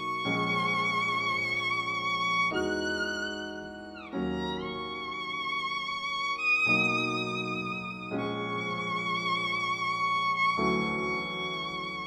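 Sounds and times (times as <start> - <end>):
violin melody with vibrato: 0.0 - 12.0.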